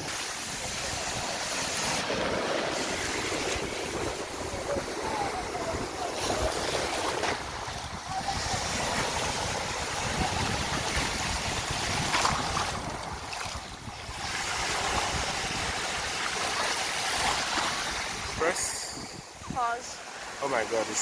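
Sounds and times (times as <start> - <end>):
wind rumbling on microphone: 0.0 - 20.4
sea waves washing onto beach: 0.0 - 21.0.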